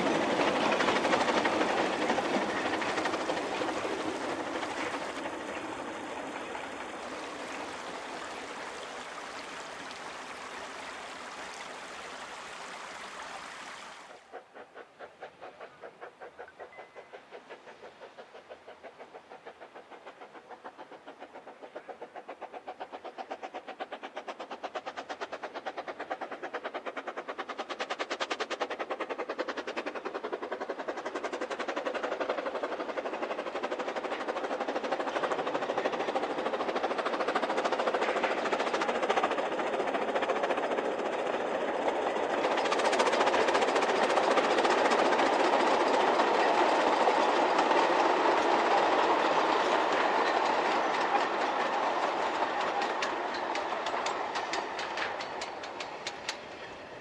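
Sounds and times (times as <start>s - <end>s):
steam locomotive exhaust chuffs: 0.0s - 11.1s, 14.1s - 57.0s
train rumbling along track: 0.0s - 57.0s.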